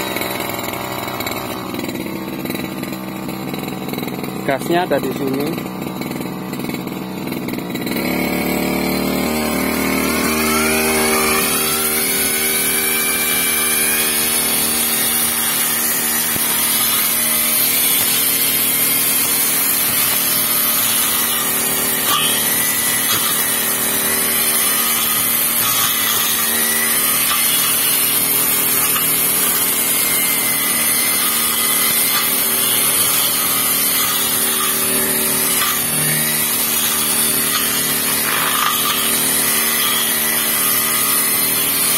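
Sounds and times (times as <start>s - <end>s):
blade cutting grass: 0.0s - 41.9s
brush cutter engine revving: 0.0s - 41.9s.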